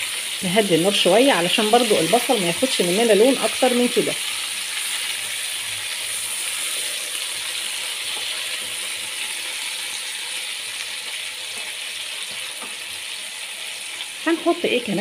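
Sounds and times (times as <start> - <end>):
oil sizzling in a pot: 0.0 - 15.0.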